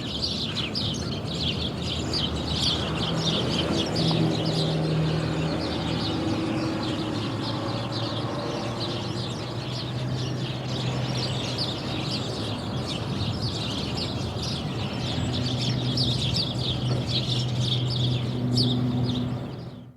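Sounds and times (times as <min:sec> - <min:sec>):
small birds chirping: 0:00.0 - 0:19.8
distant traffic hum: 0:00.0 - 0:19.9.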